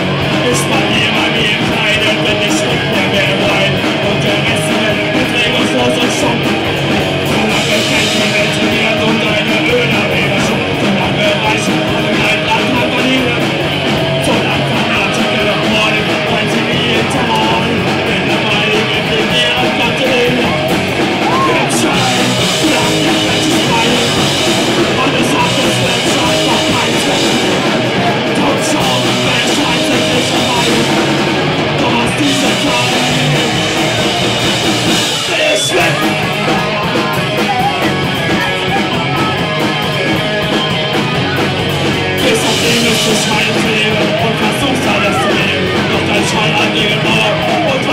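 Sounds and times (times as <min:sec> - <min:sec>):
drums: 0:00.0 - 0:47.9
electric guitars: 0:00.0 - 0:47.9
person singing: 0:00.0 - 0:47.9.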